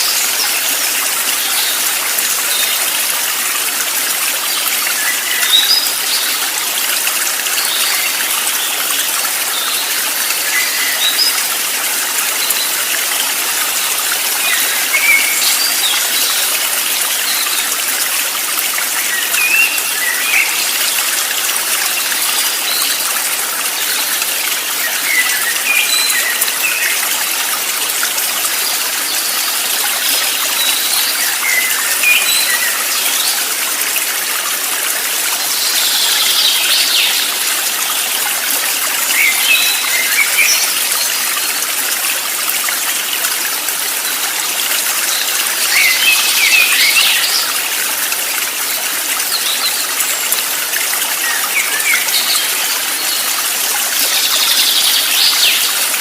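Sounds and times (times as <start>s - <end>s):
stream of running water: 0.0s - 56.0s.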